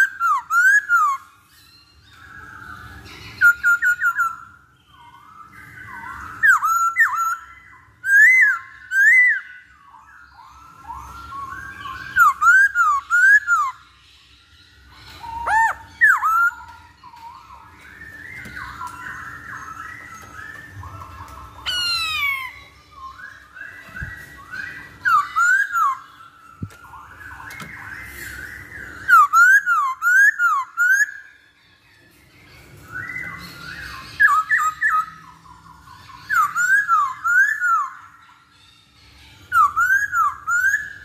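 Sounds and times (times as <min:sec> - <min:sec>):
bird singing whistled phrases: 0:00.0 - 0:31.4, 0:32.8 - 0:38.3, 0:39.4 - 0:41.0.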